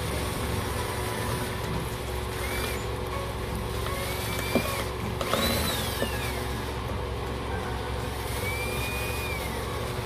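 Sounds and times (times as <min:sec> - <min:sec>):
small motor whine: 0:00.0 - 0:10.0.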